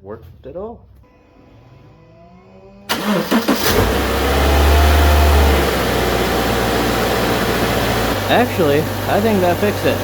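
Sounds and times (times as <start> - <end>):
car engine starting and idling: 1.3 - 10.0.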